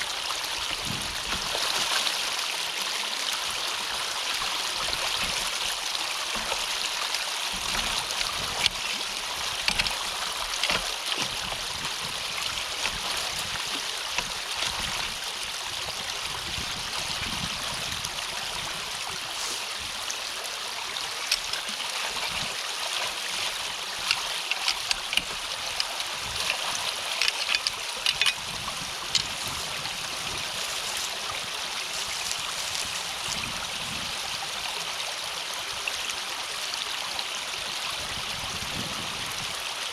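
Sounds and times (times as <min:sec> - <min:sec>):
water splashes: 0:00.0 - 0:37.4
water trickling through culvert: 0:00.0 - 0:39.9.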